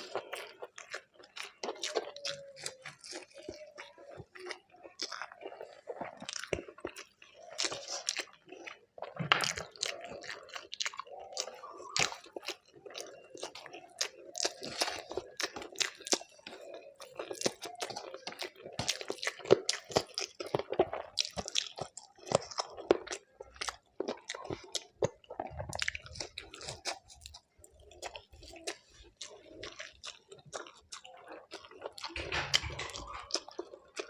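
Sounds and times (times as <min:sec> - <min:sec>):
chewing food with crunches: 0:00.0 - 0:34.0.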